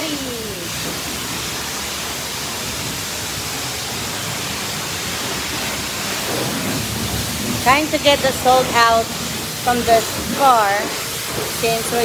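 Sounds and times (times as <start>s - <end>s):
high-pressure water spray hissing: 0.0s - 12.0s.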